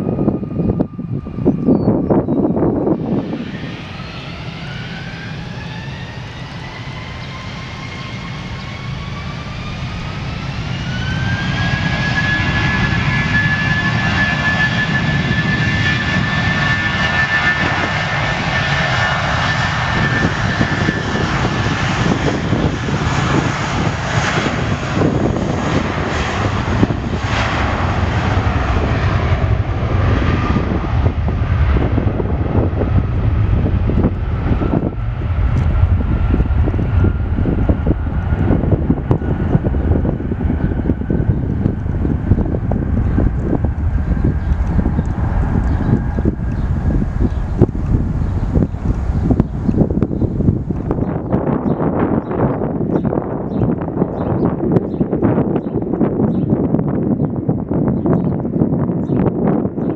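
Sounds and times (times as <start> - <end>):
jet engines whining: 0.0 - 59.9
jet noise rumble: 0.0 - 59.9.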